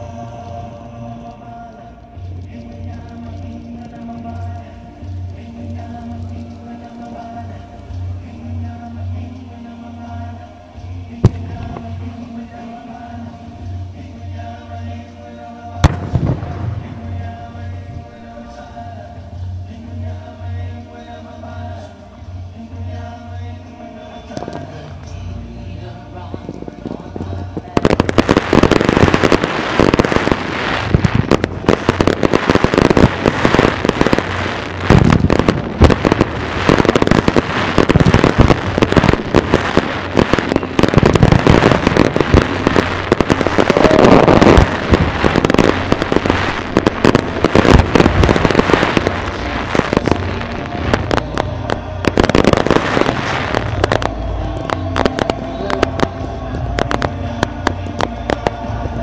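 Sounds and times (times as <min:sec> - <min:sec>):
fireworks bursting and crackling: 0:00.0 - 0:22.0, 0:22.6 - 0:59.0.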